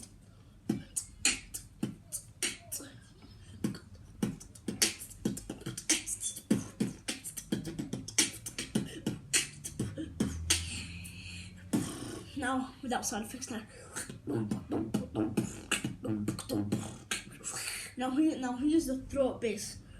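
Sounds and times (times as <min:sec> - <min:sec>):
beatboxed drum beat: 0:00.7 - 0:18.0.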